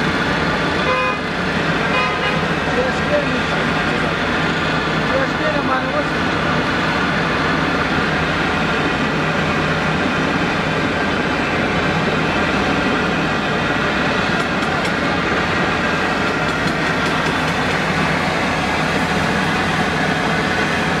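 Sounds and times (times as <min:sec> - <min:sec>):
loud mechanical roar: 0:00.0 - 0:21.0.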